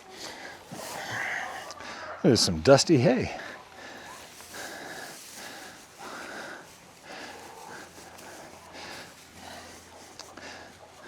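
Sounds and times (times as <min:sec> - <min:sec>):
person breathing and sniffing: 0:00.0 - 0:02.1, 0:03.4 - 0:11.0.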